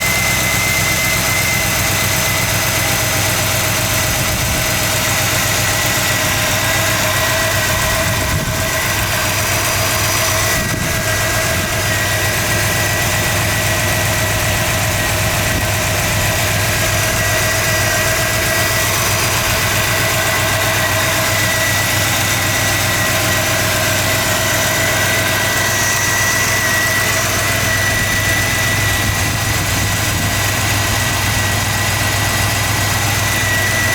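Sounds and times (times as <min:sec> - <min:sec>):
car engine idling: 0:00.0 - 0:33.9
thin steady whine: 0:00.1 - 0:33.9.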